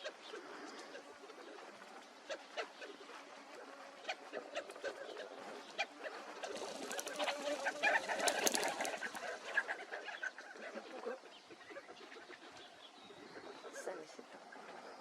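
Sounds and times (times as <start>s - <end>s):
birds clucking and chattering: 0.0s - 15.0s.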